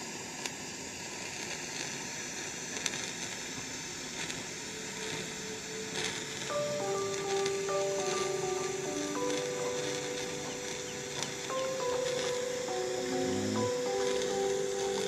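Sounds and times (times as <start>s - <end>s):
stove burner hiss: 0.0s - 15.0s.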